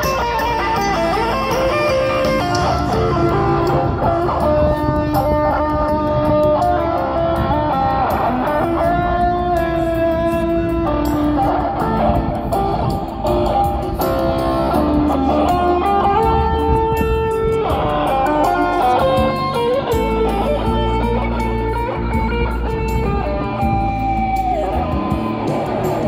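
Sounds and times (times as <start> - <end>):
electric guitar lead melody: 0.0 - 26.0.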